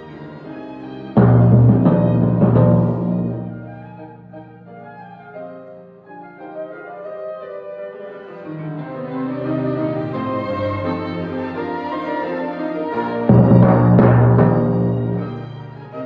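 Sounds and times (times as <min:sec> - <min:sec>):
instrumental ensemble music: 0:00.0 - 0:16.0.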